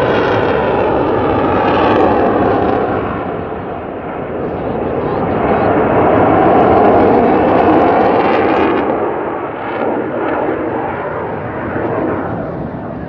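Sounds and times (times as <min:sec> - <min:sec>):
plane flying past: 0:00.0 - 0:13.0.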